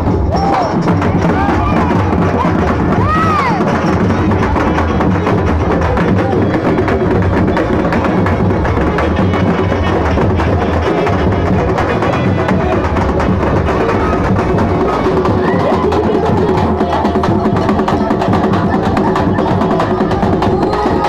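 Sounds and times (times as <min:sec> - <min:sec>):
fast loud drumming: 0:00.0 - 0:21.0.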